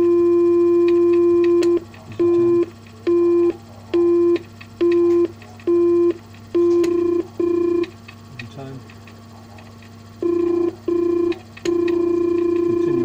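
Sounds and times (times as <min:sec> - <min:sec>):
busy tone: 0:00.0 - 0:07.9, 0:10.2 - 0:13.0
telephone exchange tone: 0:00.0 - 0:08.0, 0:10.2 - 0:13.0
faint motor hum: 0:00.0 - 0:13.0.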